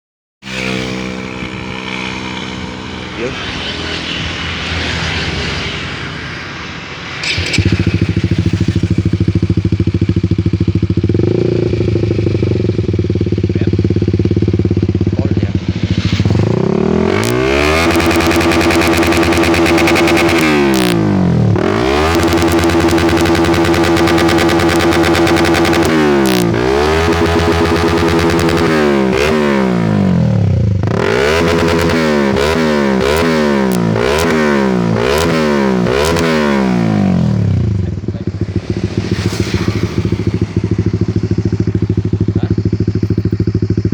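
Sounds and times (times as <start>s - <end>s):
motorcycle engine idling and revving: 0.4s - 43.9s.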